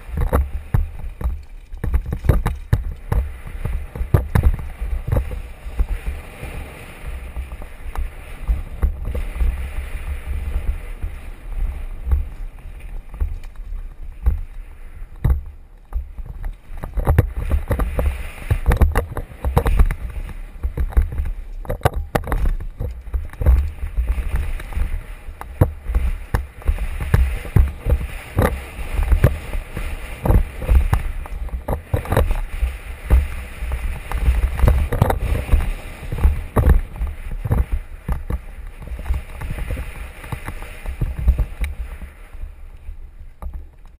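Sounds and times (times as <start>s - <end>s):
bike rattling and knocking: 0.0s - 6.2s, 7.1s - 9.8s, 15.1s - 42.1s
wind rumbling on microphone: 0.0s - 43.9s.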